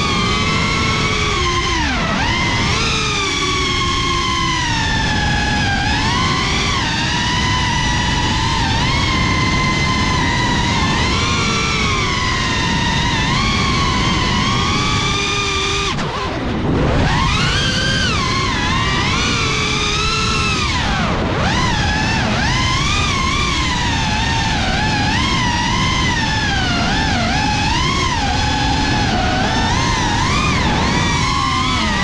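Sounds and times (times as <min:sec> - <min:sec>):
drone motors and propellers whining: 0:00.0 - 0:32.0.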